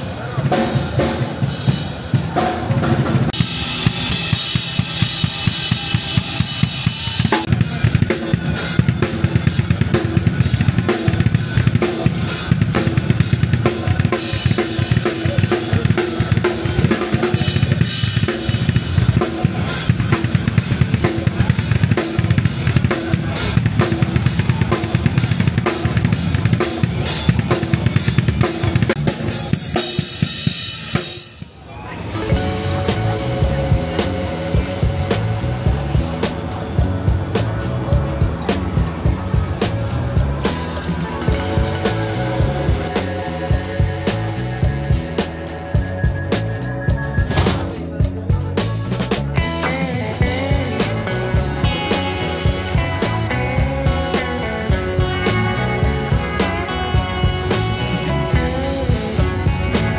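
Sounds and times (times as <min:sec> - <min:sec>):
music with drum-kit beat: 0:00.0 - 0:59.9.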